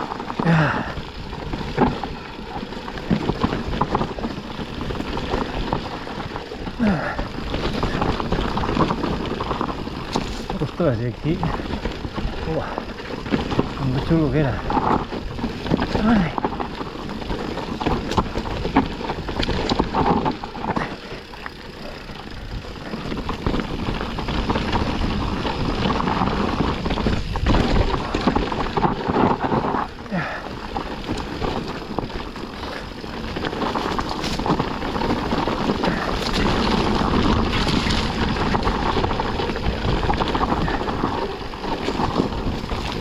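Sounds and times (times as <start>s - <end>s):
bike rattling and knocking: 0.0s - 43.0s
tyres rumbling over dirt and stones: 0.0s - 43.0s
wind buffeting microphone: 0.0s - 43.0s.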